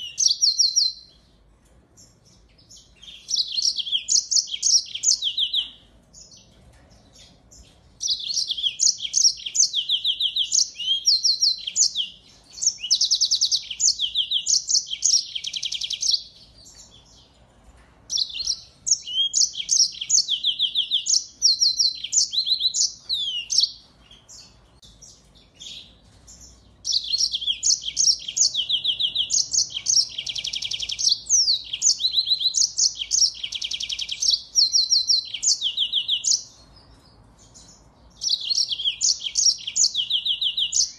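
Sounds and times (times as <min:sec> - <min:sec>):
finch singing trills and chirps: 0:00.0 - 0:17.4, 0:18.1 - 0:40.9.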